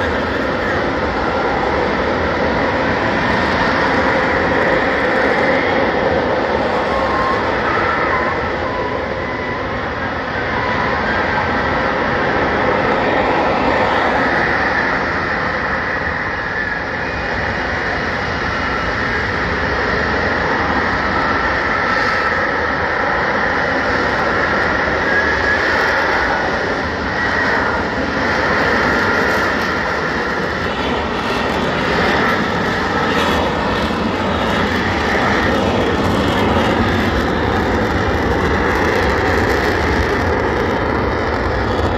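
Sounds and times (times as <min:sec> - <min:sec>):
jet roar with whine: 0:00.0 - 0:41.9.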